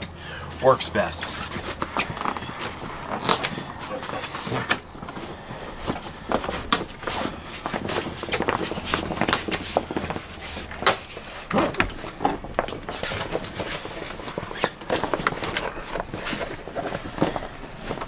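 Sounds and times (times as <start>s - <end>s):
canvas rustling: 0.5s - 18.0s
canvas edge clicking and scraping: 1.2s - 18.0s.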